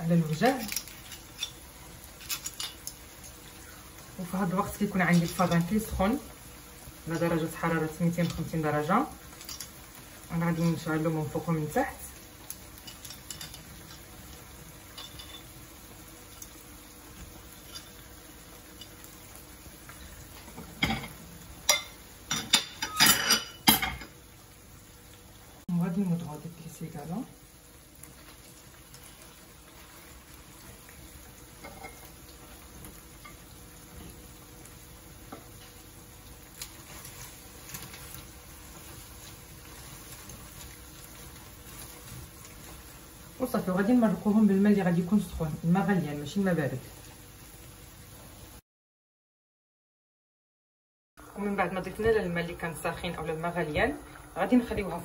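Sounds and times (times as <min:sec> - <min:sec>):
bubbling hiss of simmering pan: 0:00.0 - 0:48.6, 0:51.2 - 0:55.0.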